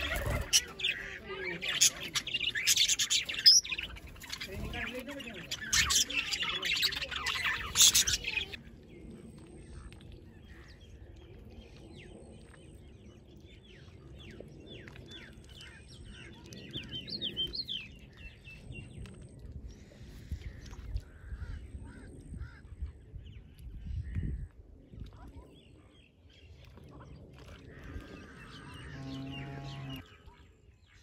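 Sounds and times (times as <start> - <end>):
small birds chirping: 0.0 - 21.2, 23.3 - 31.0.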